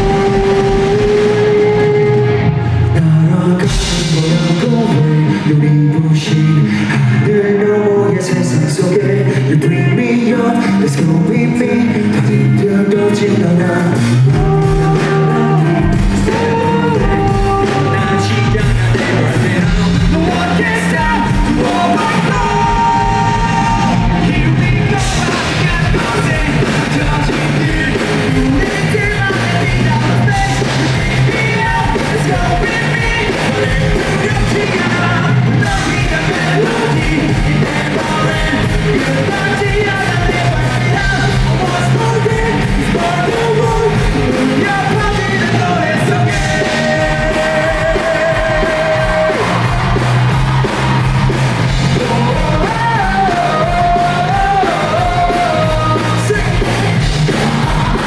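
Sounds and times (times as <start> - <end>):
live rock band playing: 0.0 - 58.0
man singing: 0.0 - 58.0.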